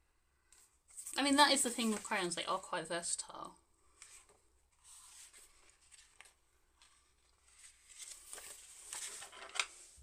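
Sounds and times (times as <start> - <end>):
paper rustling: 0.6 - 2.6, 3.9 - 10.0.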